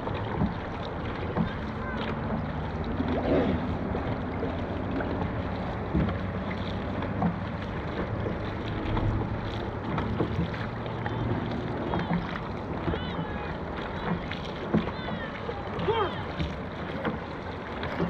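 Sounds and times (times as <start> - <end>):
rush of water: 0.0 - 18.0.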